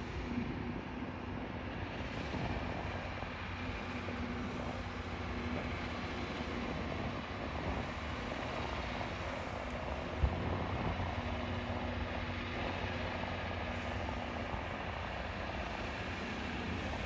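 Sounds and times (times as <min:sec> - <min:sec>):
rail grinder engines droning: 0:00.0 - 0:17.0.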